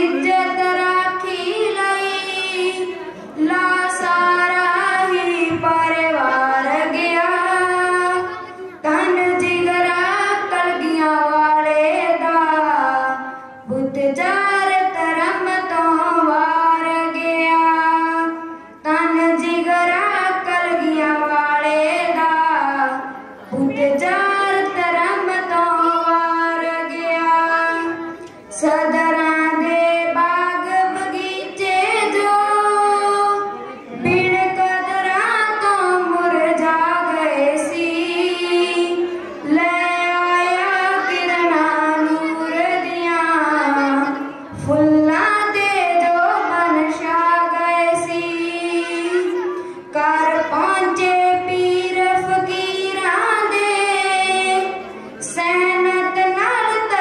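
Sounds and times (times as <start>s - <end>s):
girl singing into a microphone: 0.0s - 57.0s.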